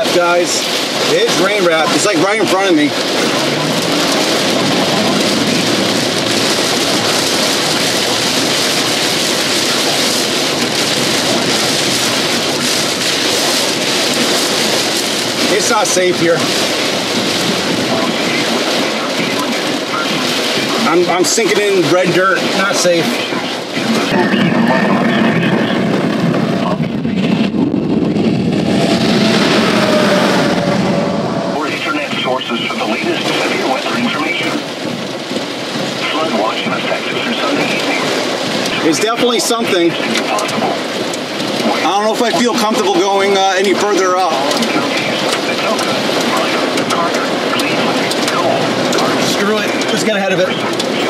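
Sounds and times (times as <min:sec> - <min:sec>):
heavy rain on vehicle: 0:00.0 - 0:51.0
road noise: 0:00.0 - 0:51.0.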